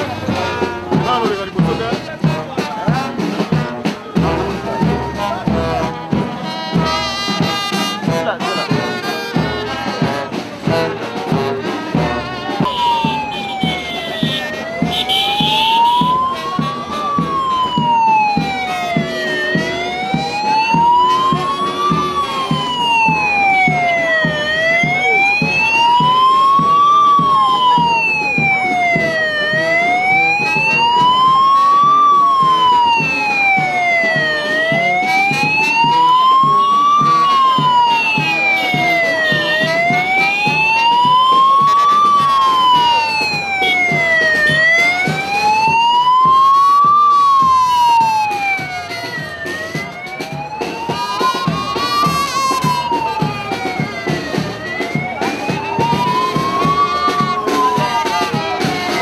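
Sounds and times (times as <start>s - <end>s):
police motorcycle siren wailing: 0.0s - 3.6s, 4.2s - 11.6s, 12.4s - 59.0s.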